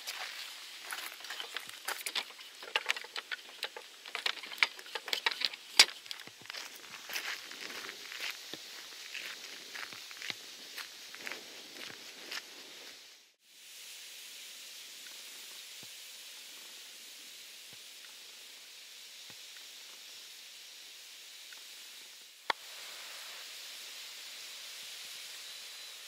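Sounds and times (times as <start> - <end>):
faint outdoor hiss: 0.0 - 26.0.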